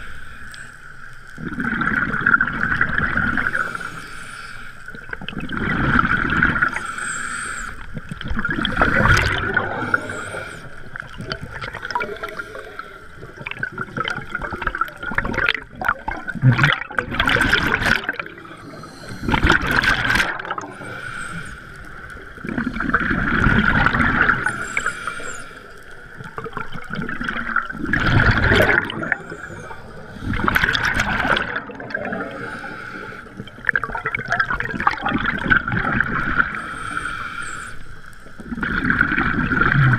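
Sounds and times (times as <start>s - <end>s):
underwater exhale bubbling: 1.3s - 39.9s.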